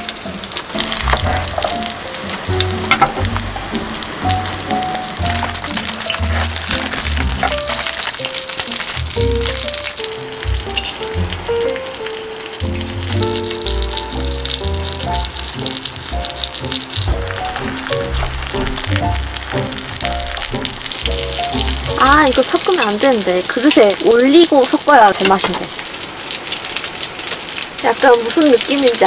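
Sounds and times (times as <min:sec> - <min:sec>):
background music: 0:00.0 - 0:24.4
meat frying in oil: 0:00.0 - 0:29.0.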